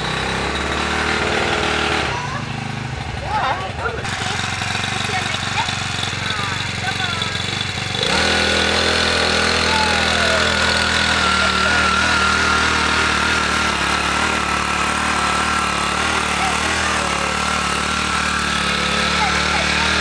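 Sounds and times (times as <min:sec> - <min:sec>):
small petrol engine idling: 0:00.0 - 0:20.0.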